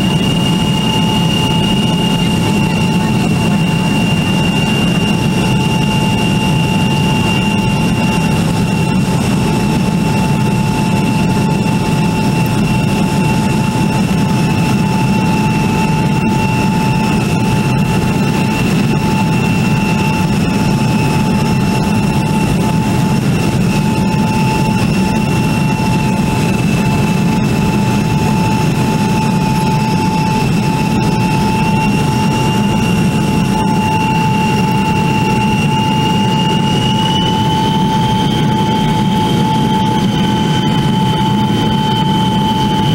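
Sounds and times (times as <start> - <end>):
high engine whine: 0.0 - 42.9
jet engine roar in cabin: 0.0 - 42.9.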